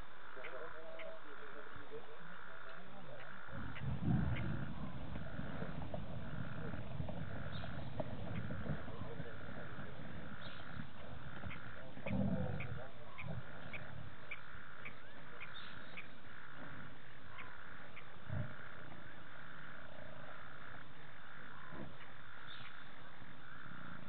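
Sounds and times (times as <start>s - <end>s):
frogs trilling: 0.0s - 24.0s
high frog chirps: 0.0s - 24.0s.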